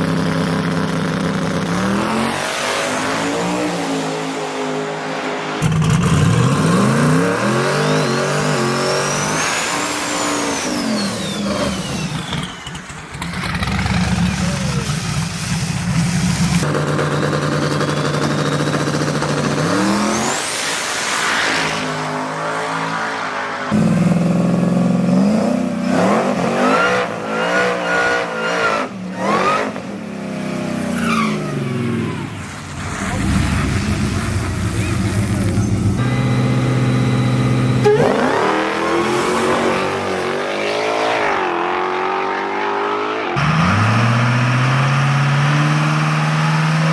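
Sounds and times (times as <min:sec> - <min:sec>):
drag race engines revving: 0:00.0 - 0:46.9.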